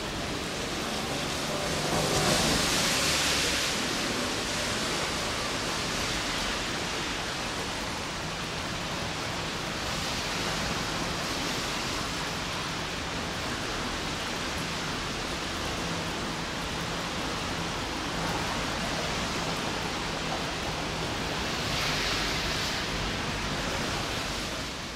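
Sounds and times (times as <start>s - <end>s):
light rain hissing: 0.0s - 24.9s.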